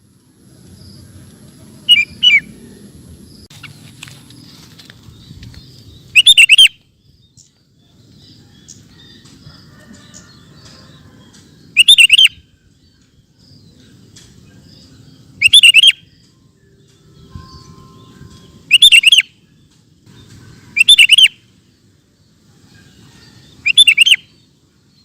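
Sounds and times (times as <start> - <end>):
bulbul singing: 0.7 - 3.8, 5.1 - 25.0.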